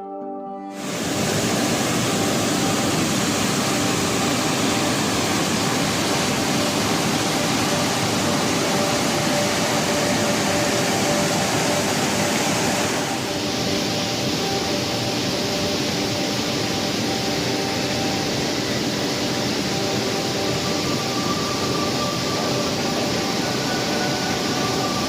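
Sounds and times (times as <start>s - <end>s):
waterfall rushing: 0.7s - 25.0s.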